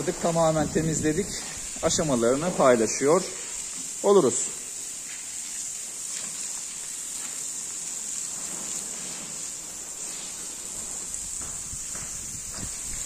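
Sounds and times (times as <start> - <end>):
broom scrubbing floor: 0.0 - 13.0
hose water spraying on concrete: 0.0 - 13.0.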